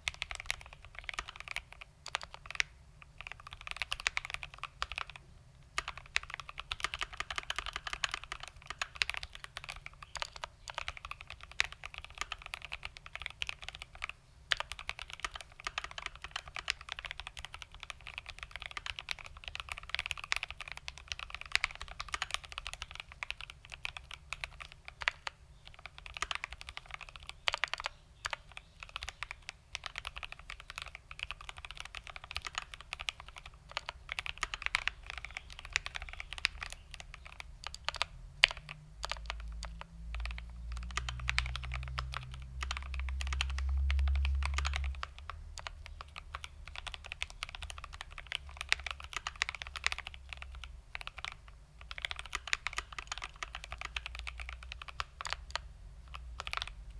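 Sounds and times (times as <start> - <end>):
mechanical keyboard typing: 0.0 - 56.9.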